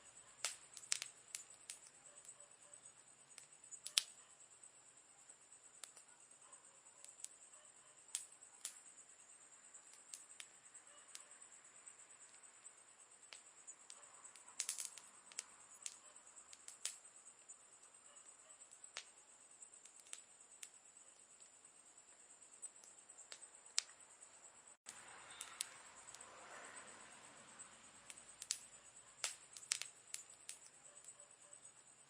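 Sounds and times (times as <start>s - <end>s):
campfire crackling: 0.0s - 32.0s
faint high hiss: 0.0s - 32.0s.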